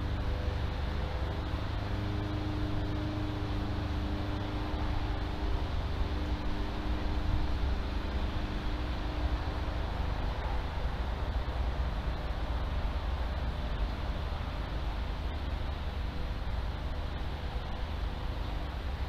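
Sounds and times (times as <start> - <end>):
faint wavering hum: 0.0 - 19.0
low rumble and hiss: 0.0 - 19.0.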